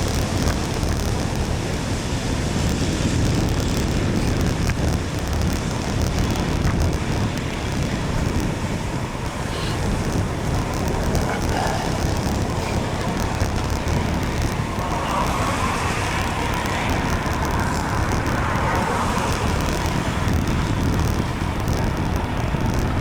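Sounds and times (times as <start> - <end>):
road and traffic noise: 0.0 - 23.0
wind buffeting microphone: 0.0 - 23.0.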